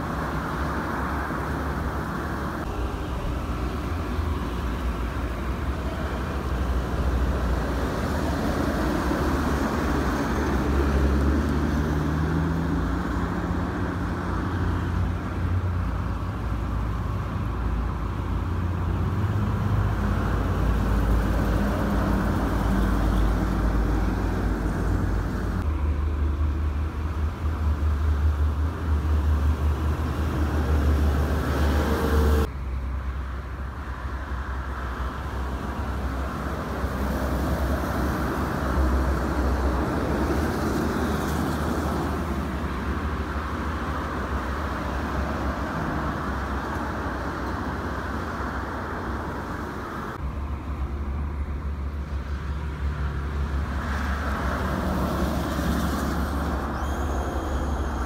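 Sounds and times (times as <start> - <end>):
highway traffic passing: 0.0 - 58.0.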